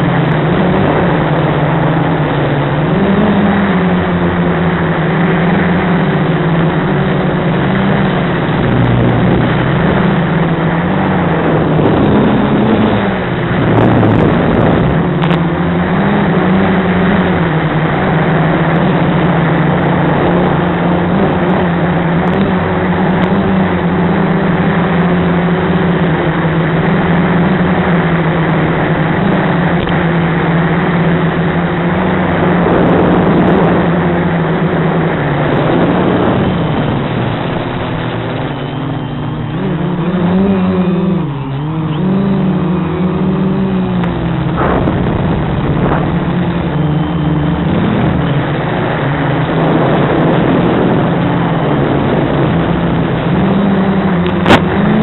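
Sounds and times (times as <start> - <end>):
drone motors droning: 0.0 - 55.0.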